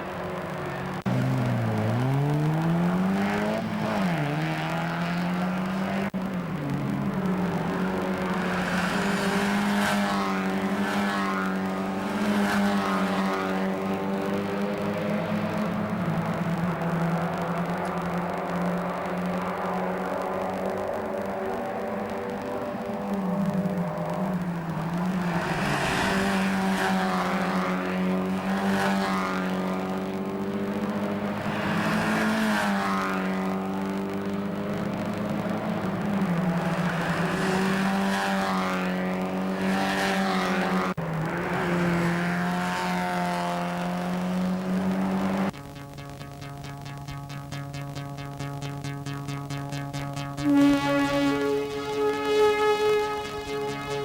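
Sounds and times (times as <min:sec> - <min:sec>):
race car engines at high revs: 0:00.0 - 0:54.0.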